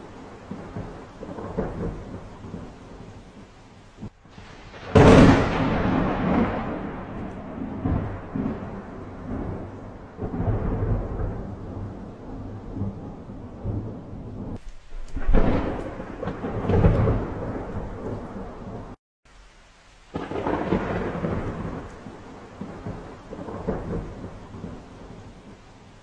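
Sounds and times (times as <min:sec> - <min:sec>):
thunder rumbling: 0:00.0 - 0:19.0, 0:20.1 - 0:26.0
steady rain: 0:00.0 - 0:26.0.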